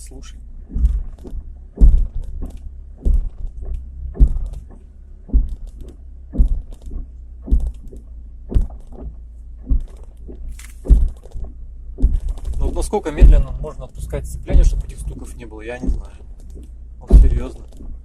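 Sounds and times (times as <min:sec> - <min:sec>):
drivetrain knocking: 0:00.0 - 0:18.0
low engine rumble: 0:00.0 - 0:18.0.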